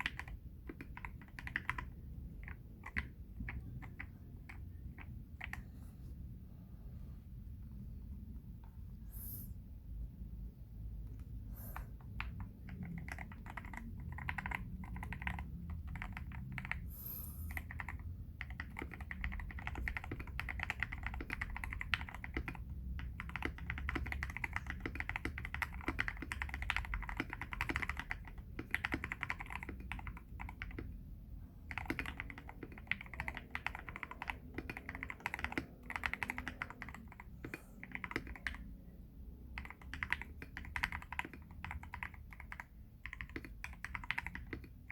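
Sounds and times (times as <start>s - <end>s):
mechanical keyboard typing: 0.0s - 5.7s, 11.8s - 16.9s, 17.5s - 44.9s.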